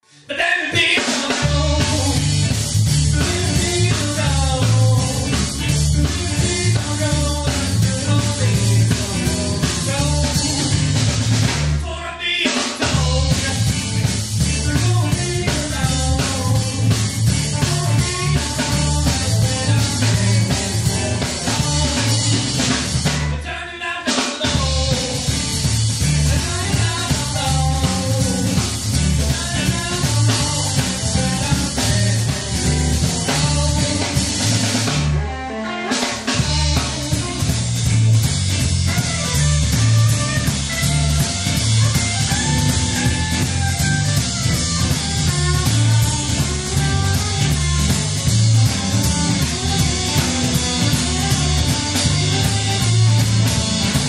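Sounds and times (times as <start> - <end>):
blues-rock band playing live: 0.3 - 54.0.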